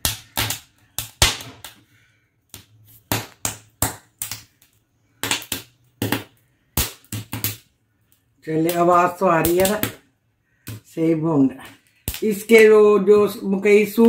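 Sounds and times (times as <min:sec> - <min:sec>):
corn kernels popping and crackling: 0:00.0 - 0:14.0.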